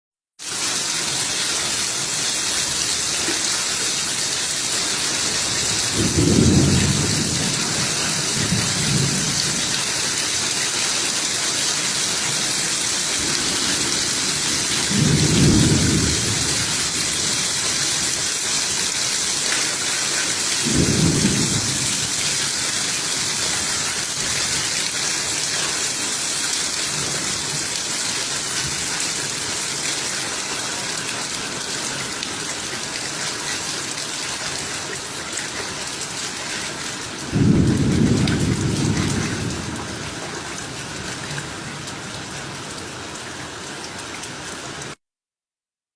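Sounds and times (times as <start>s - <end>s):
heavy rain falling: 0.4s - 45.0s.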